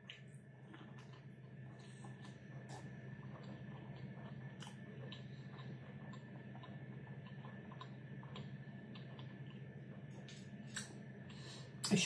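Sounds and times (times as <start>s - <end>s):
faint chewing mouth clicks: 0.0s - 11.4s
steady low hum: 0.0s - 12.0s.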